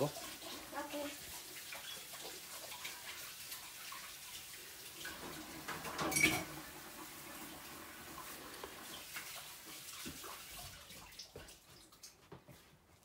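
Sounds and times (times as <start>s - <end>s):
water trickling and squelching: 0.0s - 13.0s.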